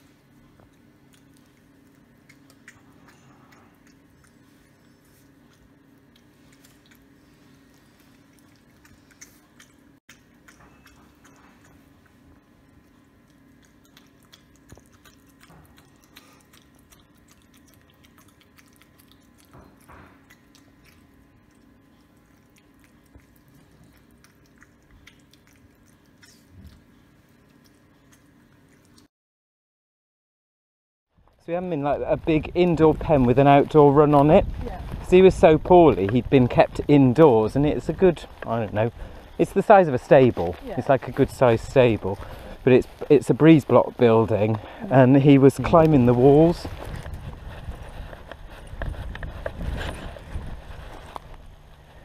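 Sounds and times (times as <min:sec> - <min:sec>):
fox chewing and lapping: 0:00.0 - 0:29.1, 0:31.2 - 0:52.0
steady low hum: 0:00.0 - 0:29.1, 0:31.2 - 0:52.0.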